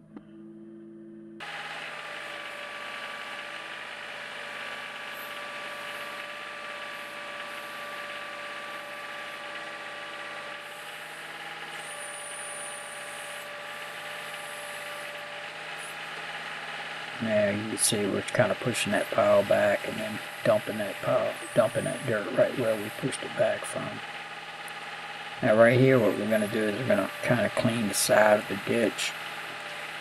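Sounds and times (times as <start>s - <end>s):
backhoe digging dirt: 1.4s - 30.0s
tractor diesel engine running: 1.4s - 30.0s.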